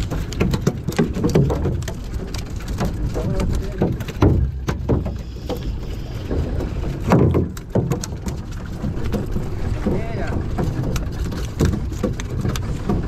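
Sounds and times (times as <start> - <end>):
boat engine rumbling: 0.0 - 13.0
water splashing against hull: 0.0 - 13.0.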